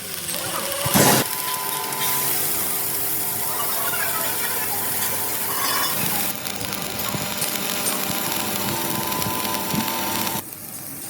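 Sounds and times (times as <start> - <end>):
loud mechanical clatter: 0.0 - 11.0
steady hiss: 0.9 - 10.9
faint whine: 1.2 - 10.4.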